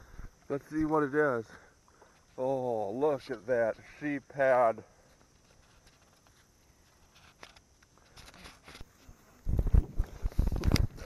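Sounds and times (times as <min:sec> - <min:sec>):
faint ticks and rustles: 0:00.0 - 0:11.0.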